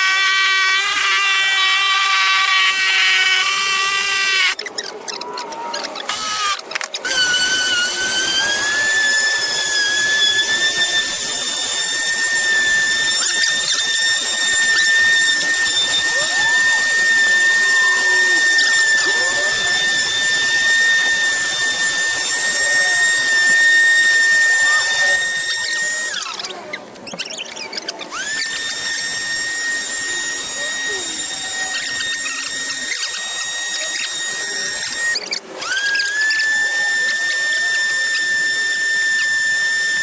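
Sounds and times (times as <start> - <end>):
power tool motor whine: 0.0 - 40.0.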